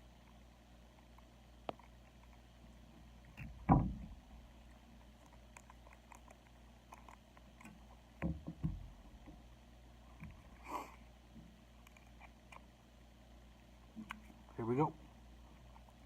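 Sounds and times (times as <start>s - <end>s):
faint steady background: 0.0s - 16.0s.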